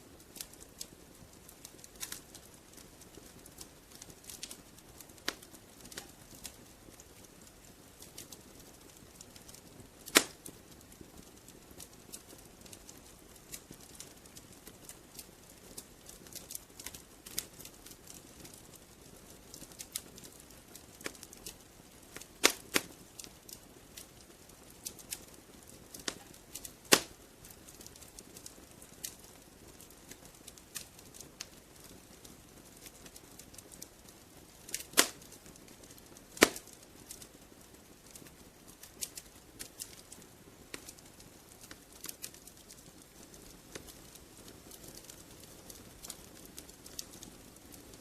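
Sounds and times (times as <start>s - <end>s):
faint low hiss: 0.0s - 48.0s
wood fire crackling: 0.0s - 48.0s
sharp fire pops: 0.3s - 7.2s, 8.0s - 10.6s, 11.2s - 18.8s, 19.4s - 31.9s, 34.6s - 37.3s, 38.0s - 41.0s, 41.6s - 47.3s.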